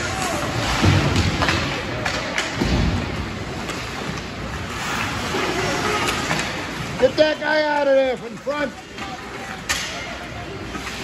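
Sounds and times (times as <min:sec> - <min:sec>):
arena noise: 0:00.0 - 0:11.0.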